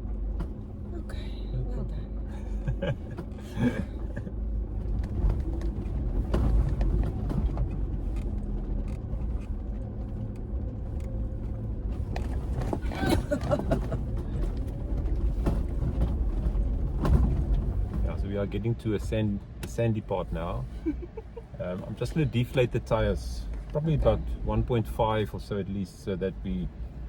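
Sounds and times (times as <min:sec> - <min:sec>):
vehicle engine low rumble: 0:00.0 - 0:27.0.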